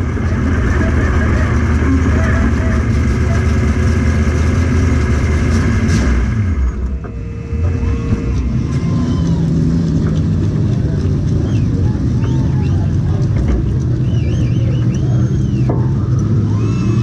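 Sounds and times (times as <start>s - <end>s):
race car engine idling: 0.0s - 17.0s.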